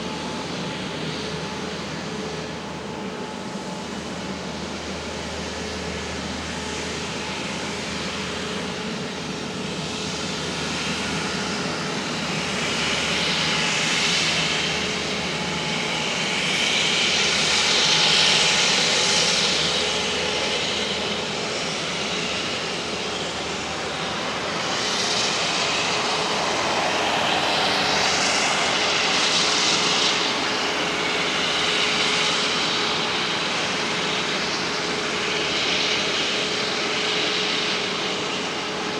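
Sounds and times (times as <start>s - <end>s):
jet airliner engines running: 0.0s - 38.9s.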